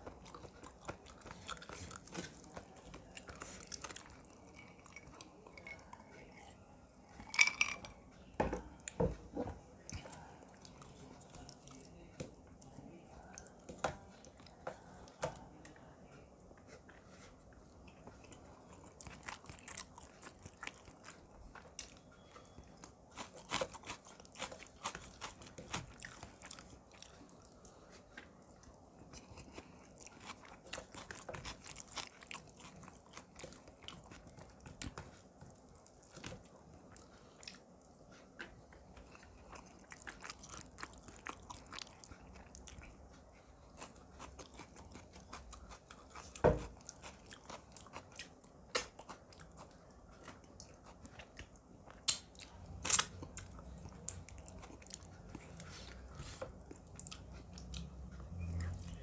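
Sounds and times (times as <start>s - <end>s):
chewing and crunching: 0.0s - 16.0s, 16.6s - 59.0s.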